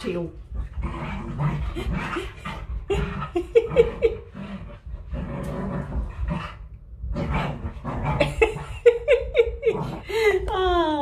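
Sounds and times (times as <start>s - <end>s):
dog growling and whining: 0.6s - 10.2s.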